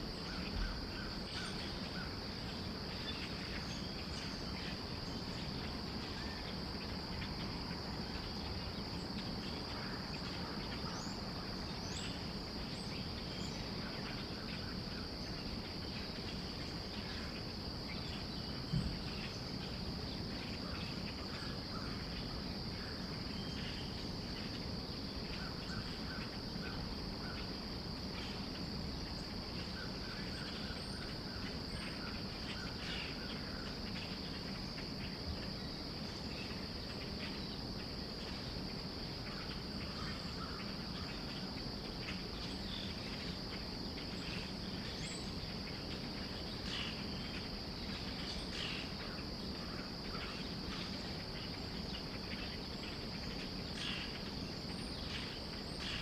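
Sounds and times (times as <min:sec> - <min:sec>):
crickets trilling: 0:00.0 - 0:56.0
low background noise: 0:00.0 - 0:56.0.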